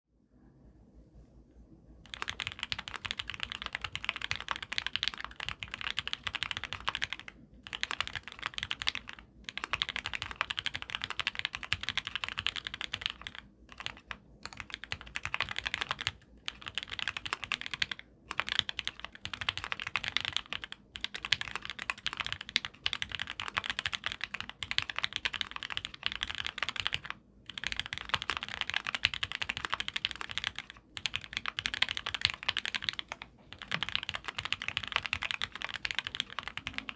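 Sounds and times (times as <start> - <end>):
mechanical keyboard typing: 2.0 - 36.9.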